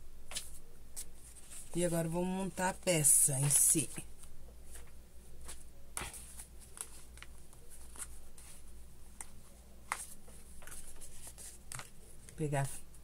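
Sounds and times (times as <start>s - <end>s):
low steady hum: 0.0s - 13.0s
paper and fabric rustling: 0.3s - 13.0s.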